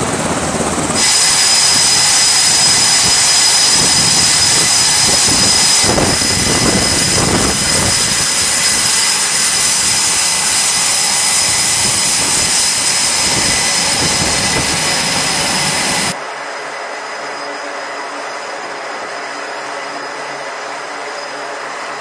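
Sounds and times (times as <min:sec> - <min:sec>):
jet engines roaring with whine: 0:00.0 - 0:22.0.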